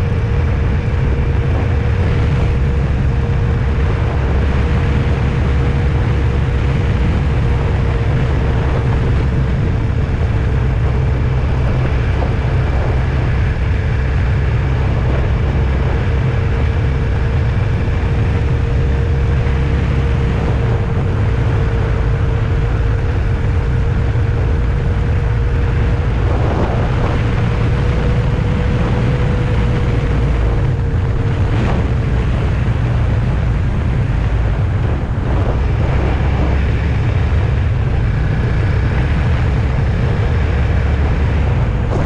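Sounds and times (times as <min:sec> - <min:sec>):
faint steady whine: 0:00.0 - 0:42.0
vehicle road and engine rumble: 0:00.0 - 0:42.0.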